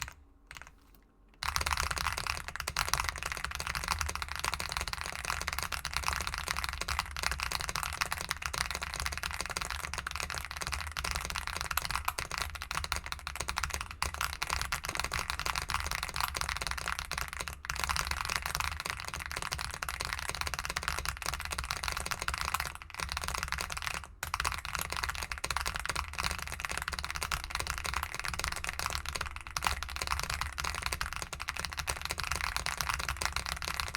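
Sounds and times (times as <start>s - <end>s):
fast typing on mechanical keyboard: 0.0s - 33.9s.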